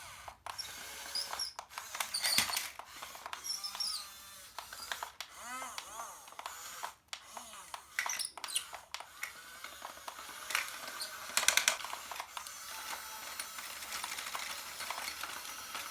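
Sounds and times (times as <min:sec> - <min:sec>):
small plastic clicks and knocks: 0:01.2 - 0:15.9.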